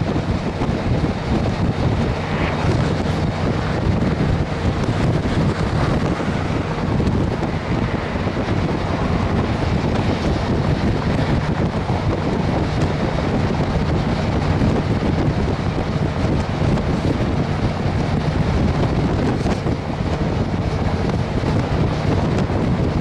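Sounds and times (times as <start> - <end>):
steady low rumble: 0.0 - 23.0
wind buffeting microphone: 0.0 - 23.0.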